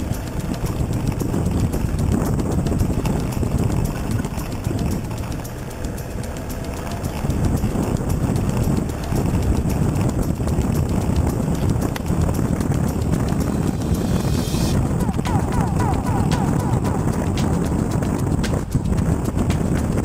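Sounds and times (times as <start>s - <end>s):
vehicle engine low rumble: 0.0s - 20.0s
vehicle rattling over rocks: 0.0s - 20.0s.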